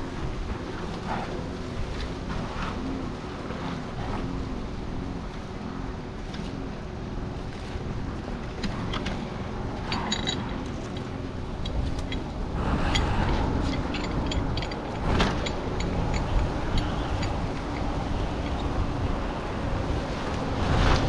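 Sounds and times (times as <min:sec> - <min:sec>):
running machinery: 0:00.0 - 0:21.0
wind rumble: 0:00.0 - 0:21.0.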